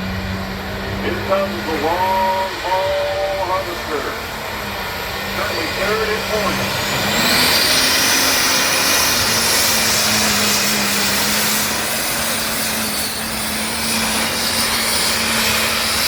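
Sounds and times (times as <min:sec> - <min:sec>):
tractor engine at high revs: 0:00.0 - 0:16.0.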